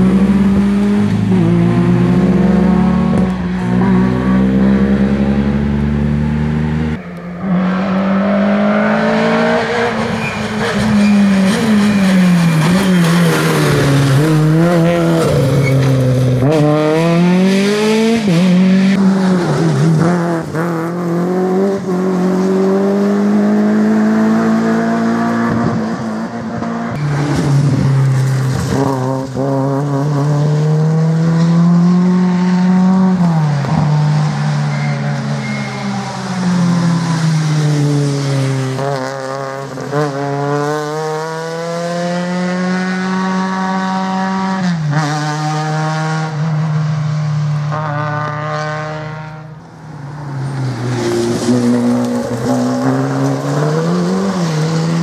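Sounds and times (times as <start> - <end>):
car approaching: 0.0 - 44.5
rally car engines accelerating: 0.0 - 49.6, 50.3 - 55.0.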